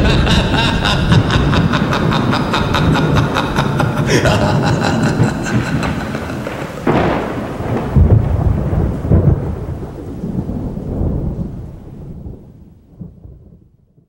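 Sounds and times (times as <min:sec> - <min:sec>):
thunder crack: 0:00.0 - 0:13.7
low rolling thunder rumbles: 0:00.0 - 0:14.0.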